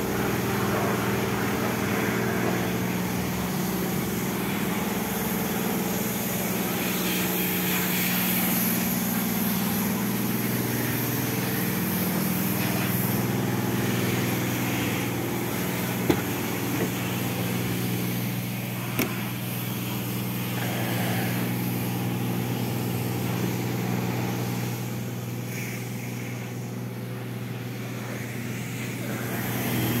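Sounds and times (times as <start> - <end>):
car engine idling: 0.0 - 27.8.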